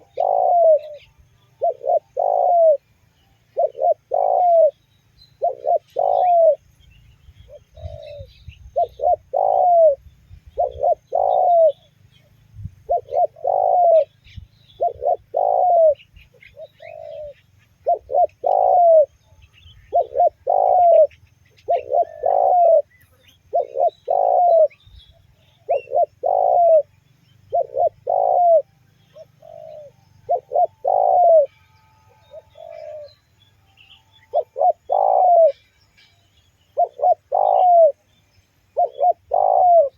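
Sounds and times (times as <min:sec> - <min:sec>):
dove cooing: 0:00.0 - 0:04.8, 0:05.4 - 0:06.7, 0:07.4 - 0:33.2, 0:33.8 - 0:35.6, 0:36.7 - 0:38.1, 0:38.7 - 0:39.9
small birds chirping: 0:00.0 - 0:39.9.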